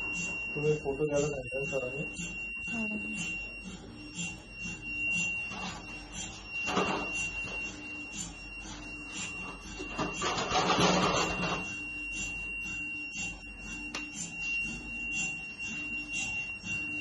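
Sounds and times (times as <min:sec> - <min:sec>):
mri scanner humming and whining: 0:00.0 - 0:17.0
soft repeating pulse: 0:00.0 - 0:17.0.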